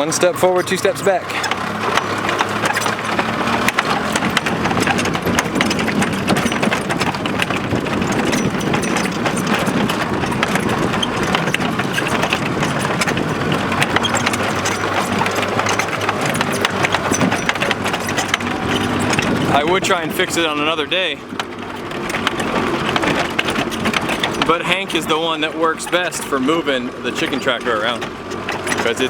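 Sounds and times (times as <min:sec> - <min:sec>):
tractor engine clattering: 0:00.0 - 0:29.0.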